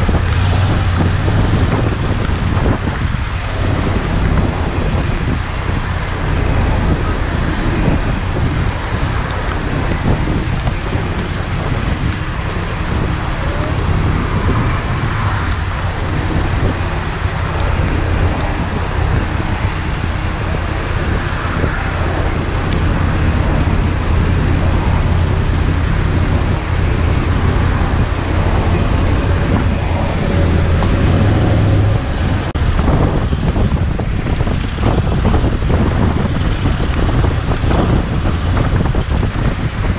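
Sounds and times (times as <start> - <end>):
motorcycle engine hum: 0.0 - 39.9
tyres on wet road: 0.0 - 39.9
wind rushing over microphone: 0.0 - 39.9.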